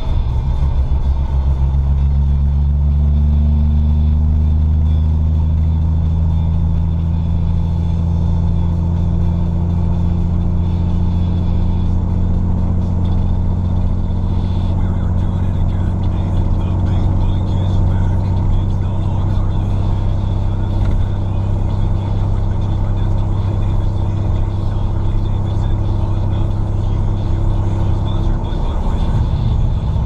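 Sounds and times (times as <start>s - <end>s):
car engine droning: 0.0s - 30.0s
road noise: 0.0s - 30.0s.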